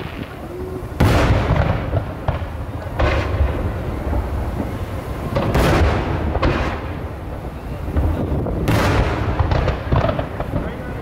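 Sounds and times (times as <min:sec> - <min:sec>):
firework shells booming: 0:00.0 - 0:11.0.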